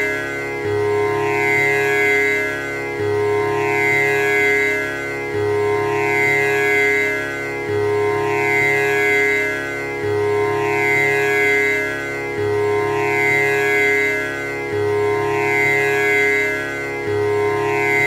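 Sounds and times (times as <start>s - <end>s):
tanpura strings drone: 0.0s - 18.0s.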